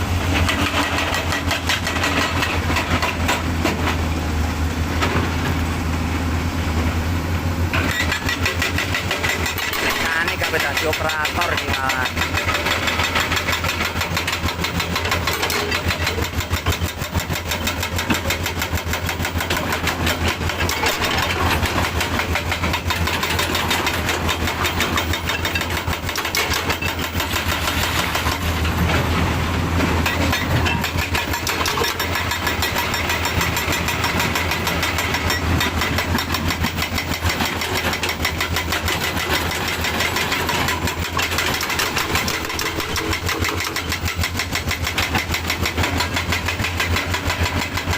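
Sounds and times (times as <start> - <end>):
diesel engine clattering: 0.0 - 47.9.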